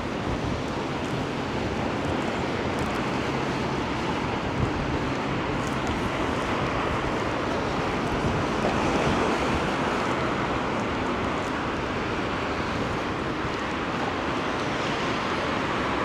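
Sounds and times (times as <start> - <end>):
rain: 0.0 - 16.0
tyres hissing on wet road: 0.0 - 16.0.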